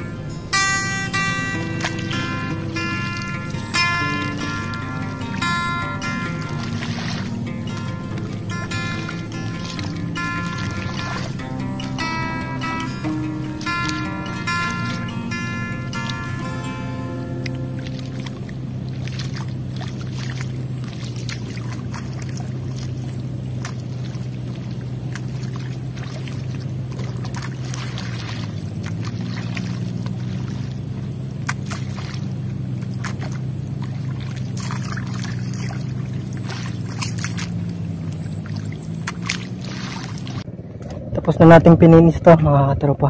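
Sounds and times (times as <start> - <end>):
mud and water splashing: 0.0 - 42.0
small engine droning: 0.0 - 42.2.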